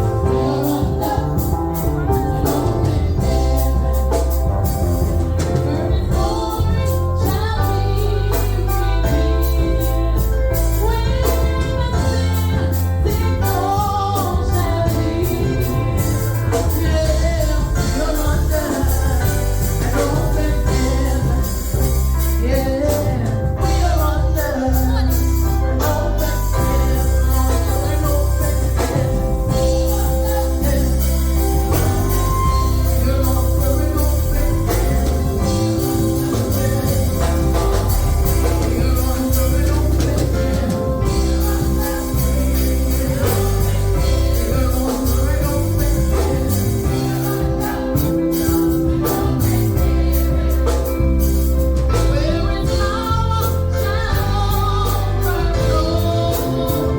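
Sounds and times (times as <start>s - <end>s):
deep bass: 0.0s - 56.9s
gospel singing: 0.0s - 56.9s.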